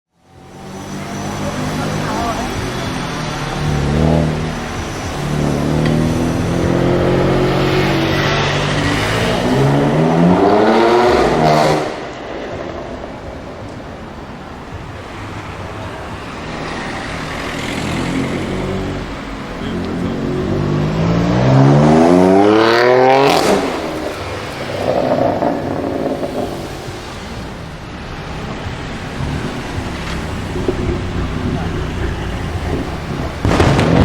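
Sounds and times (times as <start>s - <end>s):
car engine accelerating hard: 0.4s - 13.8s, 16.5s - 27.7s, 28.5s - 34.0s.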